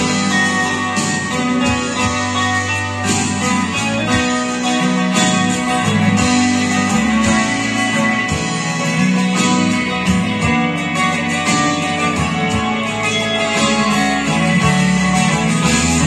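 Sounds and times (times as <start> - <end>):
electric guitar playing: 0.0 - 16.0
low bass notes: 0.0 - 16.0.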